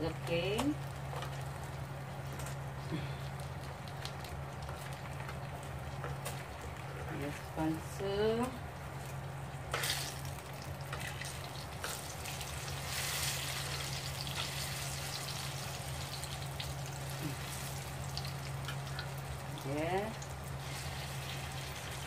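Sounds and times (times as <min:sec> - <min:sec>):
food frying in oil: 0:00.0 - 0:22.0
steady low hum: 0:00.0 - 0:22.0.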